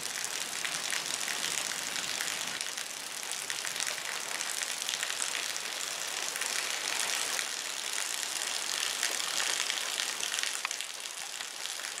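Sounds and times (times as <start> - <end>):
steady rain on wet ground: 0.0 - 12.0.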